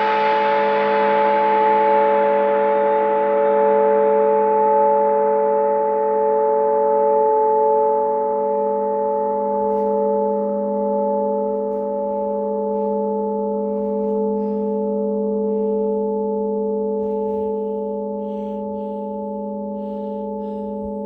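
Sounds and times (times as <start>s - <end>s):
steady ringing tone: 3.7s - 21.0s.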